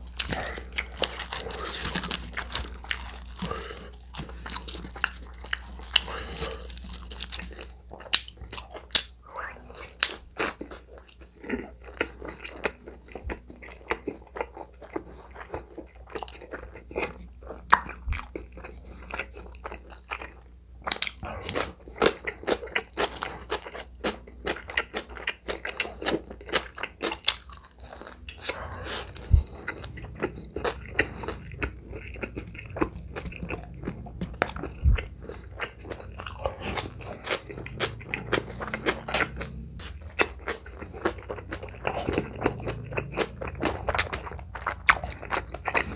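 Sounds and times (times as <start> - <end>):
person chewing crunchy food: 0.0 - 45.9.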